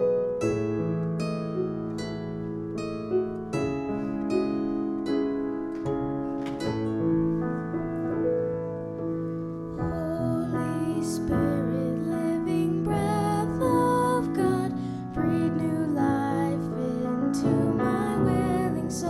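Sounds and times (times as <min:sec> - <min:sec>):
slow keyboard music: 0:00.0 - 0:19.0.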